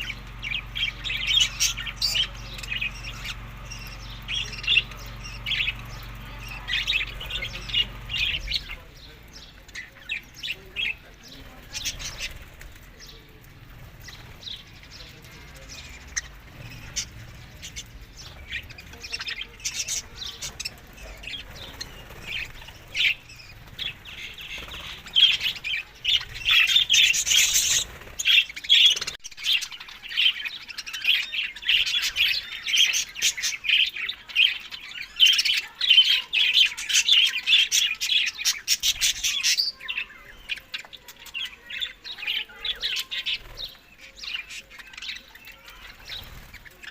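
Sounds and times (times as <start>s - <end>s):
budgerigars chirping and chattering: 0.0s - 46.9s.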